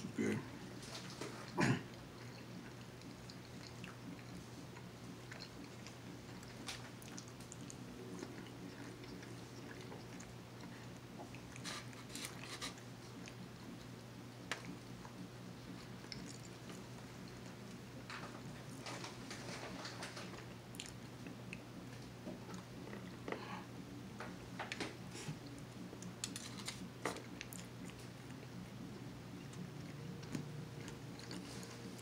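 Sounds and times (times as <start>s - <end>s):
person chewing food: 0.4s - 18.6s, 20.3s - 23.7s, 25.1s - 28.8s, 29.4s - 32.0s.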